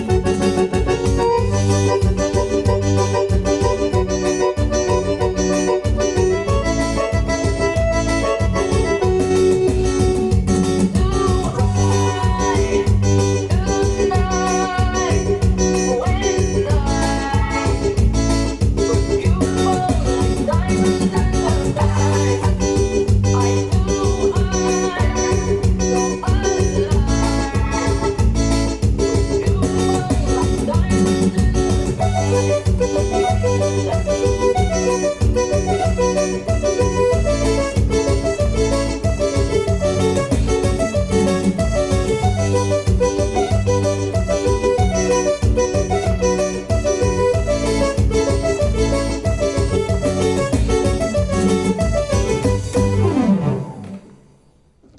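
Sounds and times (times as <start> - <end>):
dance music with heavy bass: 0.0 - 53.8
keyboard melody: 0.0 - 54.9.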